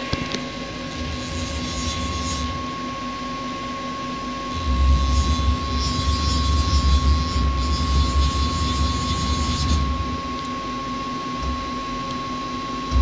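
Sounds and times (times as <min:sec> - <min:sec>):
machine high whine: 0:00.0 - 0:13.0.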